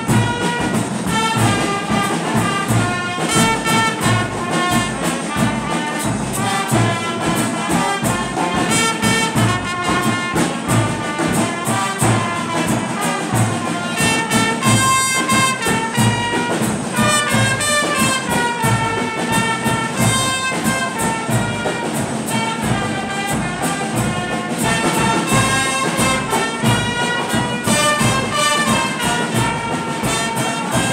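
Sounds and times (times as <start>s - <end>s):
brass band playing: 0.0s - 30.9s
drum beat: 0.0s - 30.9s.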